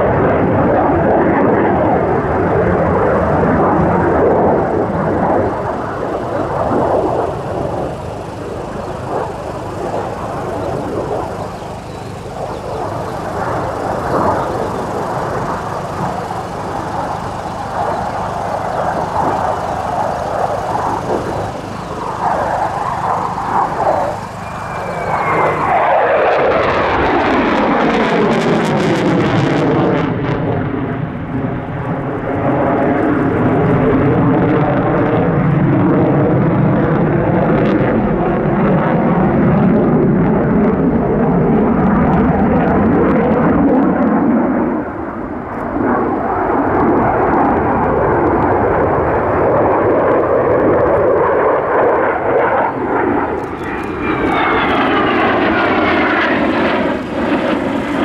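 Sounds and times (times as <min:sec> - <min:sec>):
falling sweeping jet tones: 0:00.0 - 0:58.0
fighter jet engines roaring: 0:00.0 - 0:58.0.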